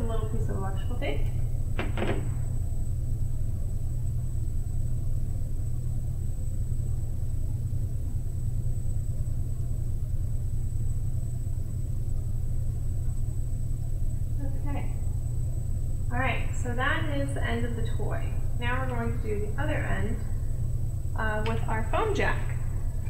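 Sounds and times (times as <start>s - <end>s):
high-pitched whine: 0.0s - 23.0s
low background hum: 0.0s - 23.0s.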